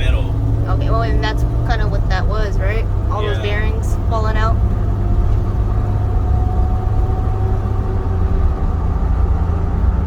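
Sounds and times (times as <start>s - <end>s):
road and tyre rumble: 0.0s - 10.0s.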